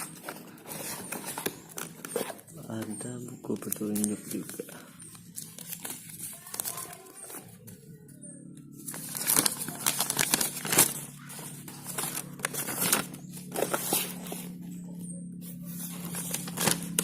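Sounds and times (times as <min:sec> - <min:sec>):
packaging rustling and crinkling: 0:00.0 - 0:07.8, 0:08.8 - 0:14.6, 0:15.8 - 0:17.0
steady low hum: 0:00.0 - 0:17.0.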